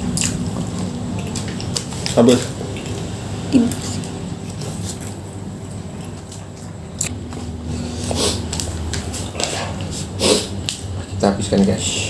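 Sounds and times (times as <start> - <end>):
wet chewing and mouth noises: 0.0 - 11.1
steady low hum: 0.0 - 12.0.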